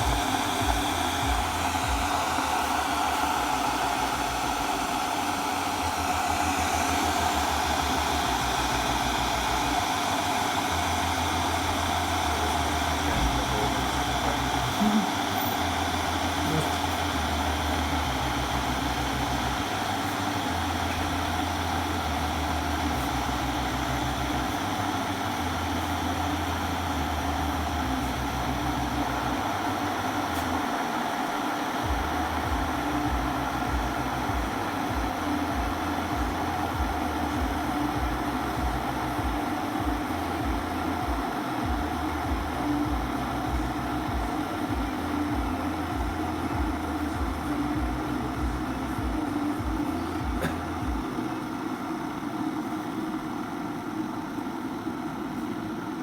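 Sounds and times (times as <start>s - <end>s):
electric kettle heating water: 0.0s - 56.0s.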